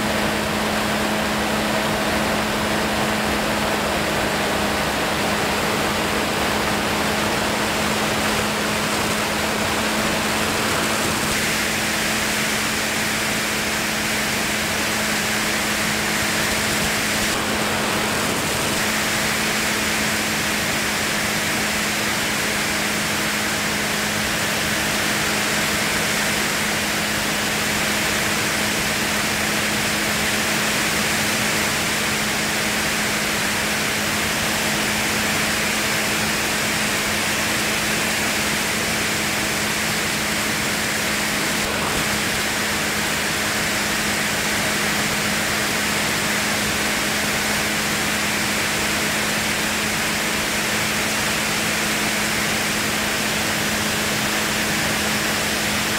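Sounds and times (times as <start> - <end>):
aircraft airflow rush: 0.0 - 55.9.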